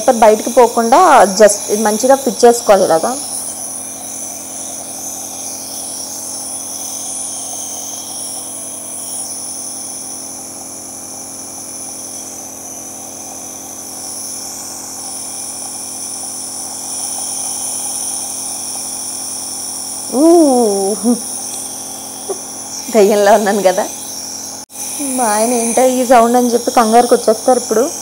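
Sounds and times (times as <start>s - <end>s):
nebuliser electric hum: 0.0s - 28.0s.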